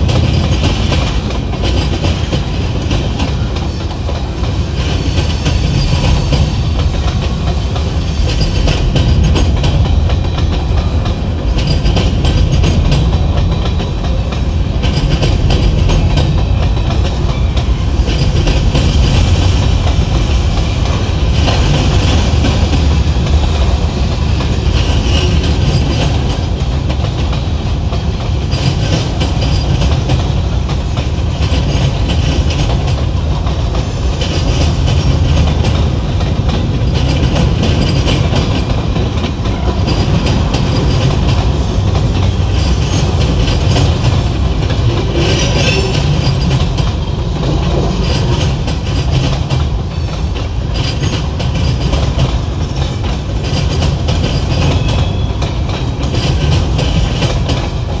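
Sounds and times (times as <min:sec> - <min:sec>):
loud train rumble: 0:00.0 - 0:58.0
train wheels clacking over joints: 0:00.0 - 0:58.0.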